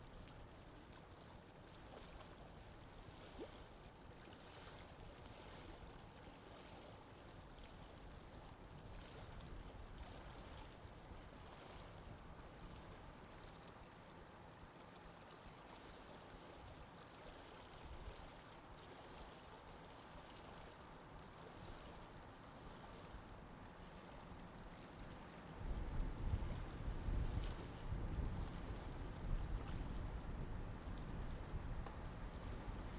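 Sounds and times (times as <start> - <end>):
water lapping gently: 0.0 - 32.9.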